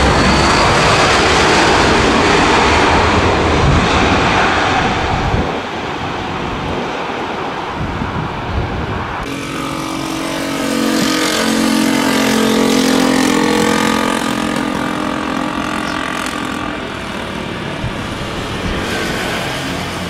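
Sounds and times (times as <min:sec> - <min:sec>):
jet engines whining: 0:00.0 - 0:20.0.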